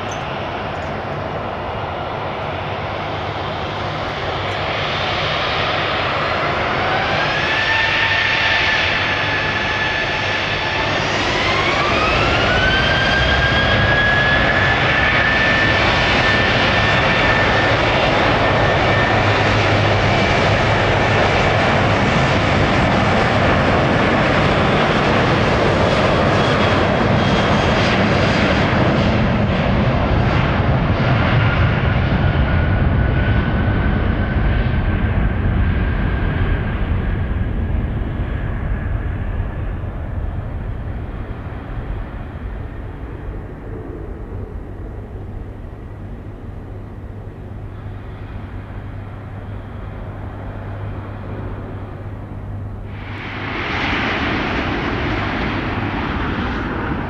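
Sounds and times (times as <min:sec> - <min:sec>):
jet engines spooling up: 0:00.0 - 0:57.0
jet roar: 0:00.0 - 0:57.0.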